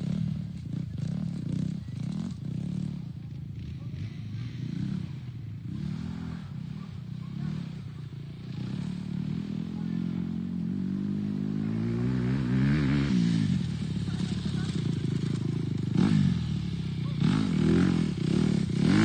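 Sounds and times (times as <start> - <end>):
dirt bike engine revving: 3.8 - 19.0.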